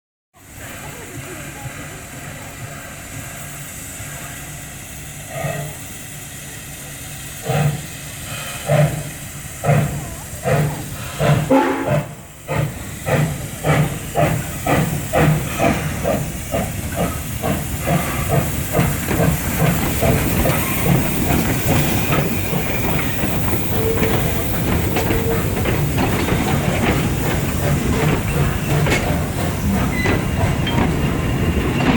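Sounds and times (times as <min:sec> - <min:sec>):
steam hissing: 0:00.4 - 0:31.9
steam locomotive exhaust chuffs: 0:00.4 - 0:31.9.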